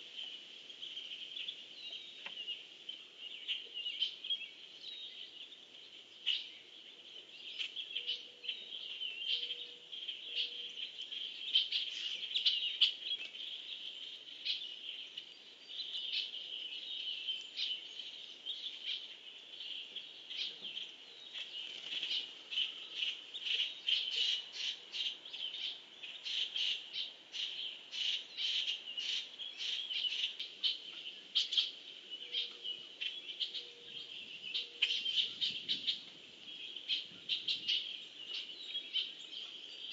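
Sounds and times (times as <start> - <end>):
birds chirping: 0.0 - 39.9
high-pitched bird chorus: 0.0 - 39.9.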